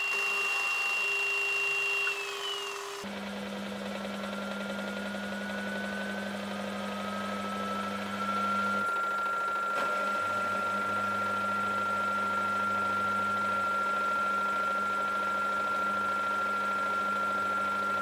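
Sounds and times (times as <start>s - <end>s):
washing machine motor whine: 0.0s - 18.0s.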